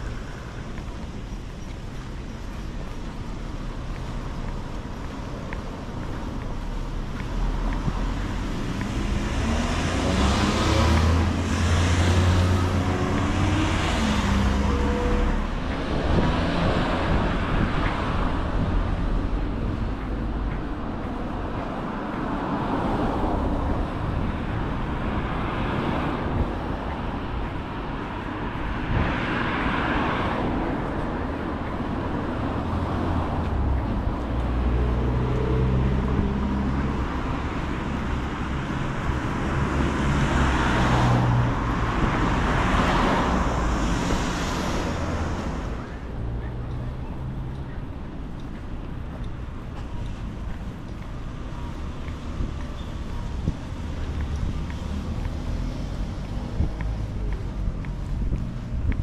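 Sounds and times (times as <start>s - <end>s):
cars passing: 0.0s - 59.0s
low traffic rumble: 0.0s - 59.0s.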